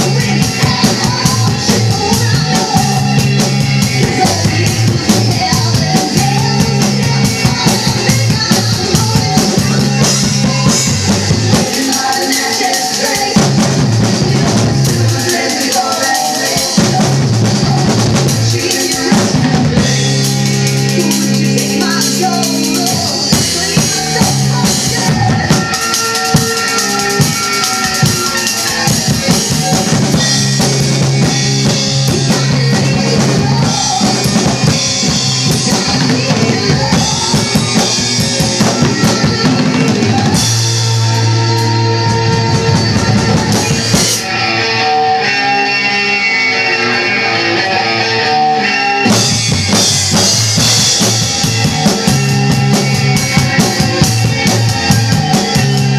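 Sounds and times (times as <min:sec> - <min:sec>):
drum kit playing: 0:00.0 - 0:55.9
rock band recording: 0:00.0 - 0:55.9.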